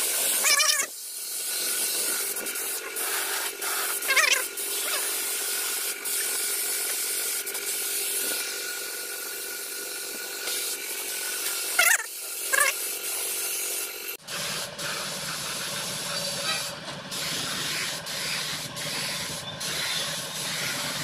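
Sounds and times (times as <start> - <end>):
paint spray gun hissing: 0.0 - 21.0.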